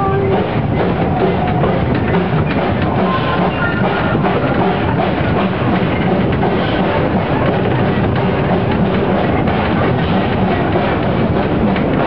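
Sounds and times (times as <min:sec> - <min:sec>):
steam locomotive chuffing: 0:00.0 - 0:12.0
wheels clattering on rails: 0:00.0 - 0:12.0.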